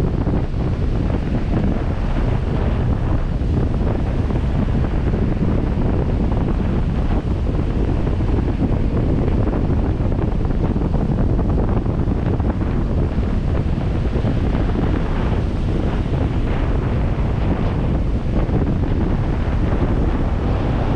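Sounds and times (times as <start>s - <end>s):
surf: 0.0s - 20.9s
wind buffeting microphone: 0.0s - 20.9s.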